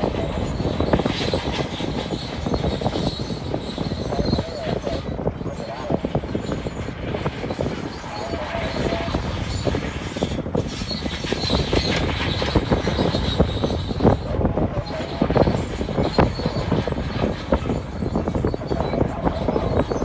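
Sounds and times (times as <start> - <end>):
bulldozer engine running: 0.0 - 5.2, 6.1 - 20.0
crawler tracks clanking: 0.0 - 20.0.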